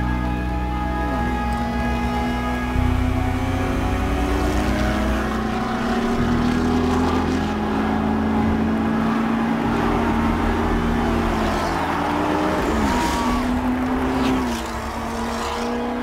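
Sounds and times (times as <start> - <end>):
race car engine drone: 0.0 - 16.0.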